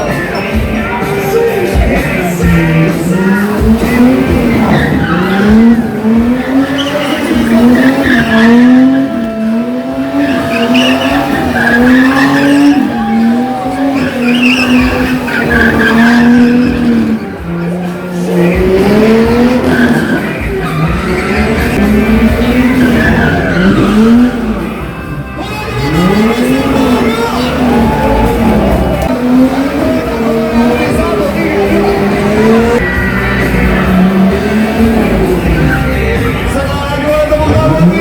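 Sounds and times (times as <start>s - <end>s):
car engine revving: 0.0s - 38.0s
tires squealing: 0.0s - 38.0s.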